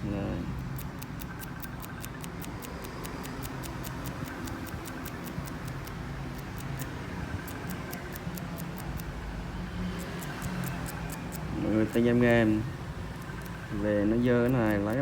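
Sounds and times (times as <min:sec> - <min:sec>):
rapid even ticking: 0:00.5 - 0:09.2, 0:09.9 - 0:15.0.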